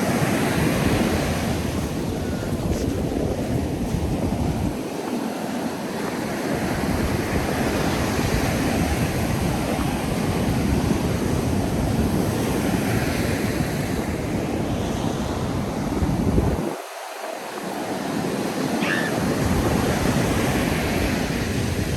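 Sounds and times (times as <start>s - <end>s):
ocean surf breaking on beach: 0.0s - 21.9s
wind rumbling on microphone: 0.0s - 21.9s.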